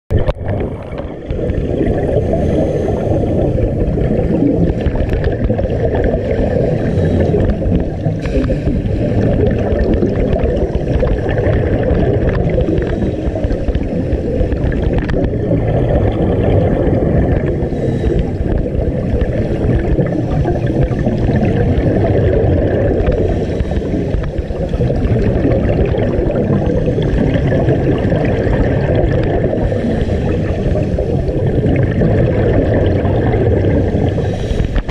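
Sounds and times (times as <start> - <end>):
divers' exhaled breath bubbling: 0.1 - 34.9
underwater rush and gurgling: 0.1 - 34.9.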